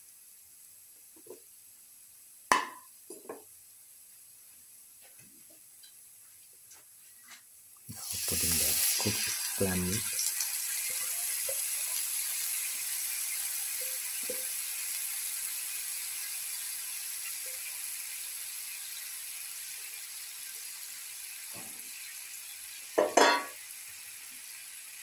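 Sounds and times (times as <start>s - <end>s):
clam meat sizzling in oil: 0.0s - 6.2s, 7.6s - 25.0s.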